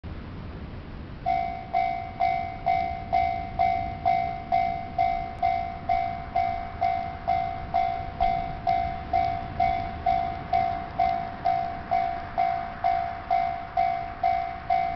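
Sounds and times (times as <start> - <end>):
level crossing warning bell: 1.2 - 14.9.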